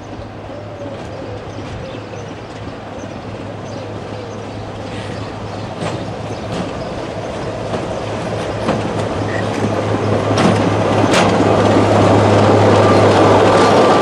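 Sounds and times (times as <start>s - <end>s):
train running with low hum: 0.0s - 14.0s
wheels clicking over rail joints: 0.0s - 14.0s.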